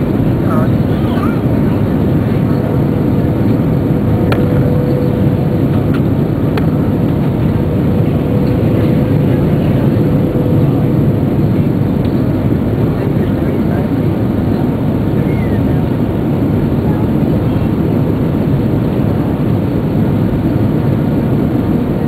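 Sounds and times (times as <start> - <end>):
airplane cabin engine roar: 0.0 - 22.0
faint steady hum: 0.0 - 22.0.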